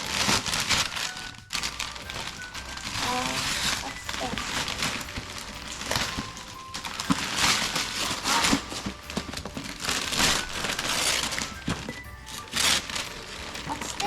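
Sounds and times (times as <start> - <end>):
wrapping paper tearing and crumpling: 0.0 - 14.0.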